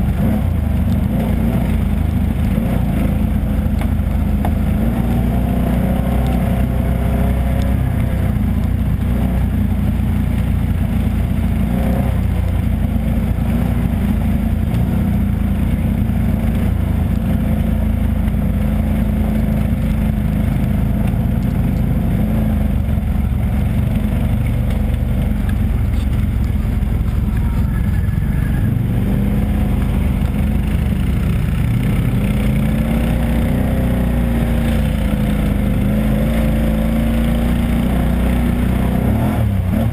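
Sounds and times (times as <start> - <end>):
atv engine running: 0.0 - 39.9
low rumble: 0.0 - 39.9.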